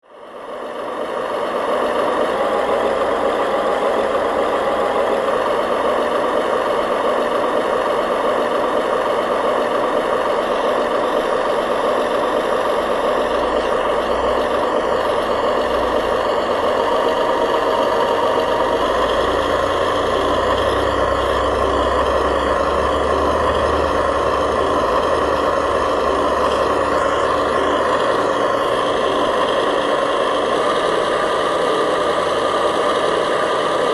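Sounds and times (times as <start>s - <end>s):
model vehicle engine drone: 0.0s - 33.9s.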